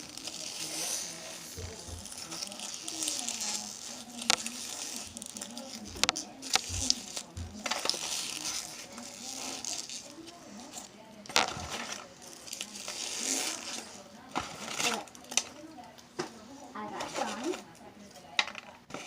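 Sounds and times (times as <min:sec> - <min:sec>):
crunchy slime crackling and popping: 0:00.0 - 0:16.0.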